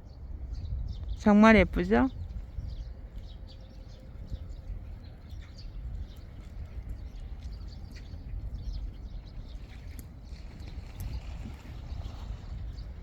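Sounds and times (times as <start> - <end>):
wind rumbling on microphone: 0.0 - 13.0
footsteps outdoors: 2.2 - 13.0.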